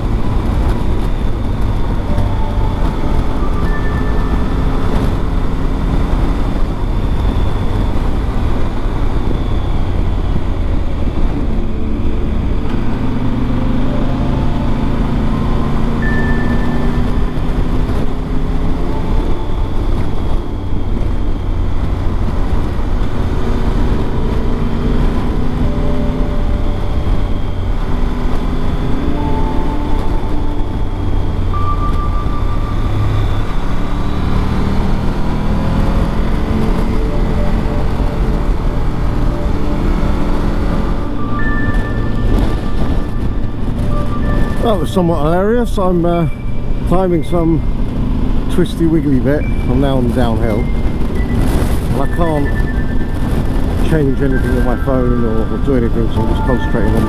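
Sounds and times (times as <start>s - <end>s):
wind rushing: 0.0s - 46.9s
motorcycle engine running: 0.0s - 54.9s.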